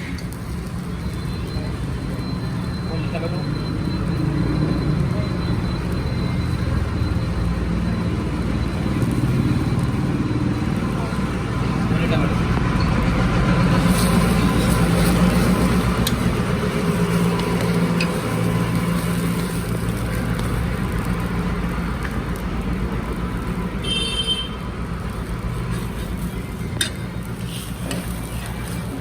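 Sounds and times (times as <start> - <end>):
street traffic hum: 0.0 - 29.0.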